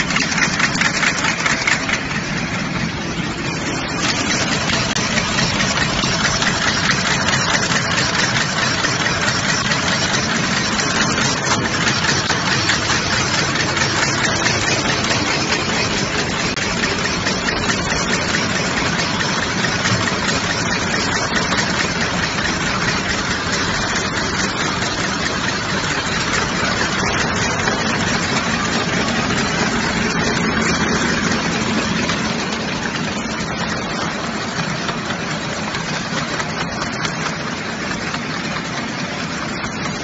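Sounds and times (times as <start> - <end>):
packing machine clatter and whir: 0.0 - 40.0.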